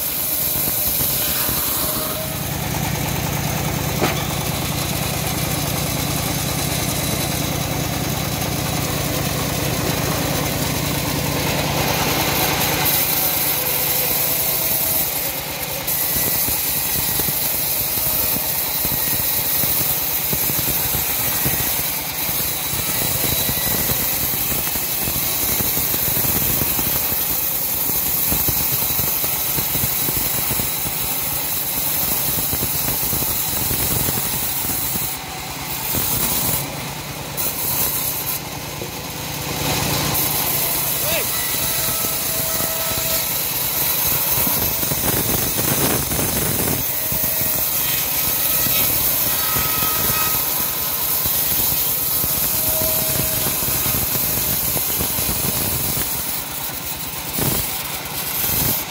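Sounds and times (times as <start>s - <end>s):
band sawmill cutting log: 0.0s - 58.9s.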